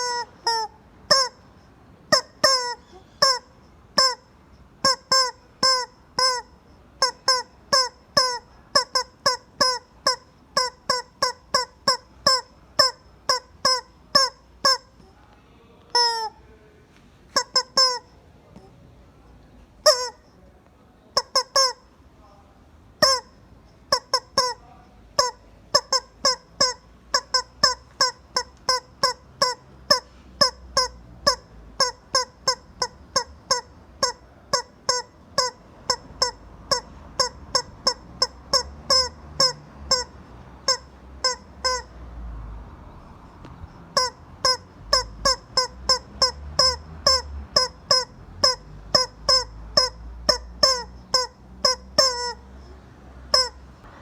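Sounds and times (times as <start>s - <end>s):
rubber chicken squeak toy squealing: 0.0s - 15.2s, 15.9s - 16.4s, 17.3s - 18.8s, 19.8s - 20.4s, 21.1s - 22.0s, 23.0s - 42.0s, 43.5s - 53.7s.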